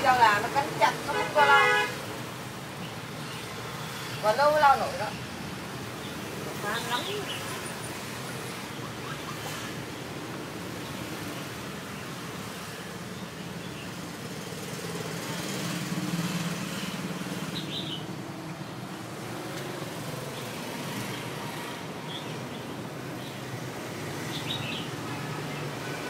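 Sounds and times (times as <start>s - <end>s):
street traffic hum: 0.0s - 26.0s.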